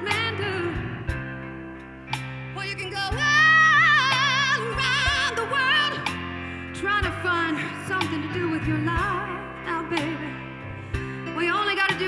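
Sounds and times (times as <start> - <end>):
woman singing: 0.0 - 1.3, 2.5 - 10.6, 11.2 - 12.0
live blues-rock band: 0.0 - 12.0.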